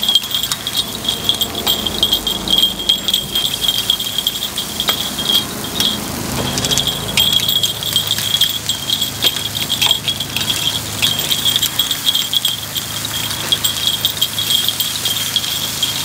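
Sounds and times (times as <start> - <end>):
metal picks clicking on a pan: 0.0 - 3.1, 3.8 - 16.0.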